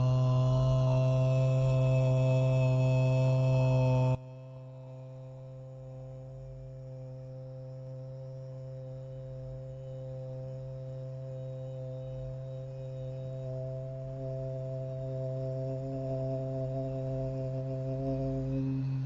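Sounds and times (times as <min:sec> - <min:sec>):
chanted mantra: 0:00.0 - 0:19.0
meditation music drone: 0:00.0 - 0:19.0.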